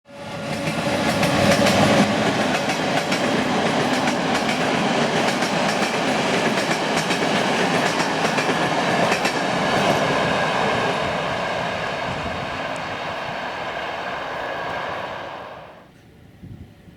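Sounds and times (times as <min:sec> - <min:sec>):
train wheels clicking over joints: 0:00.5 - 0:15.5.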